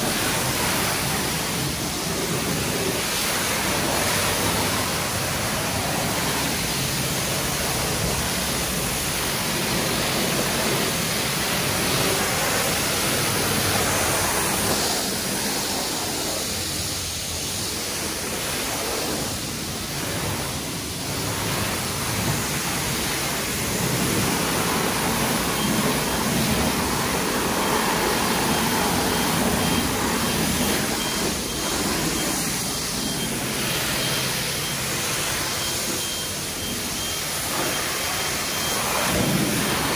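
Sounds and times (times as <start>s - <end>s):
pressure washer spray hissing: 0.0s - 39.9s.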